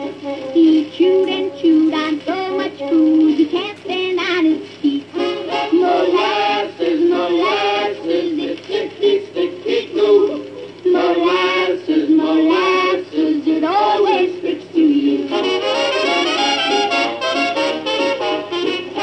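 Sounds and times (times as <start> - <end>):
woman singing on old pop record: 0.0 - 15.5.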